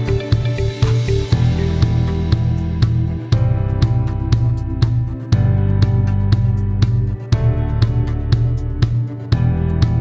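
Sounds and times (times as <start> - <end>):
background music with steady beat: 0.0 - 10.0
sustained bass line: 0.0 - 10.0.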